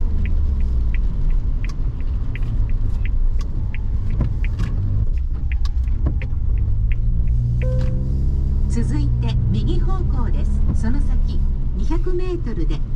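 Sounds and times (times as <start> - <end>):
car engine and road rumble: 0.0 - 12.9.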